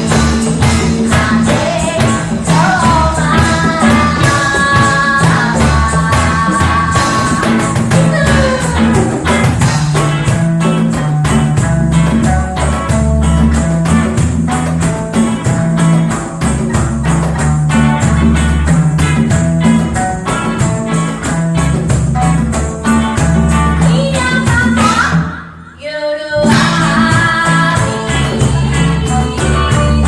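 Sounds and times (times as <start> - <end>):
live reggae band: 0.0 - 30.0.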